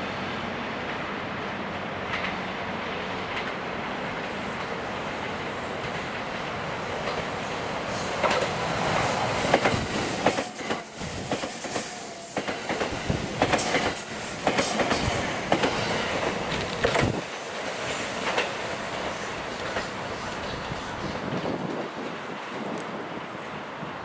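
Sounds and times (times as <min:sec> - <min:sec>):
electric train passing: 0:00.0 - 0:24.0
wheels clacking over rail joints: 0:03.2 - 0:23.0.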